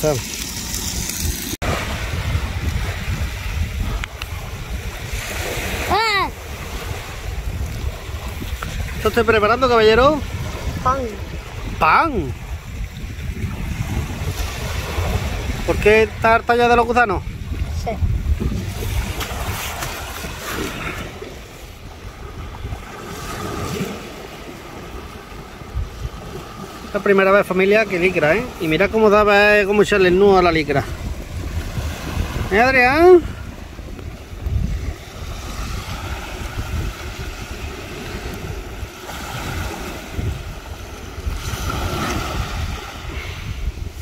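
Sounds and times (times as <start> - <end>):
waves washing on shore: 0.0 - 44.0
wind buffeting microphone: 0.0 - 44.0.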